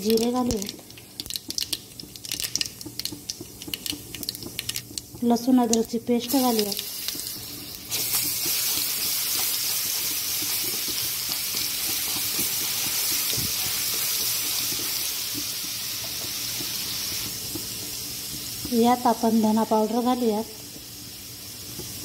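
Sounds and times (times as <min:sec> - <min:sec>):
paste sizzling in hot oil: 0:00.0 - 0:22.0.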